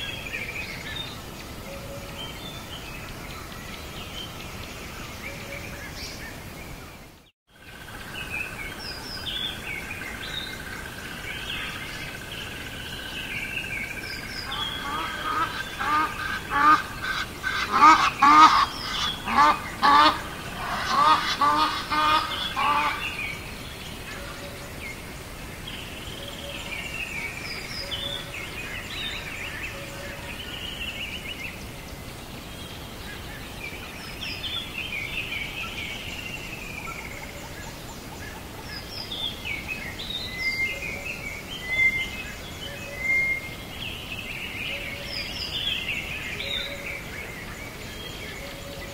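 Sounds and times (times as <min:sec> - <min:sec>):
bird calls and chirps: 0:00.0 - 0:48.9.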